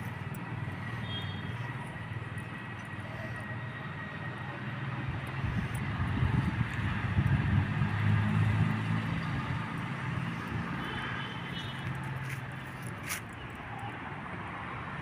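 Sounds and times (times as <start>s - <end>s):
low engine hum passing: 0.0s - 13.8s.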